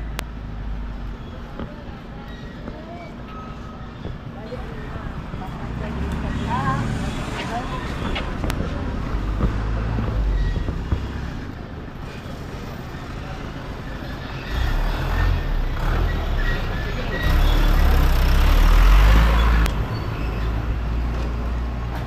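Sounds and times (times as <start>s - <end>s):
street traffic: 0.0s - 22.0s
vehicle engine running close: 3.9s - 22.0s.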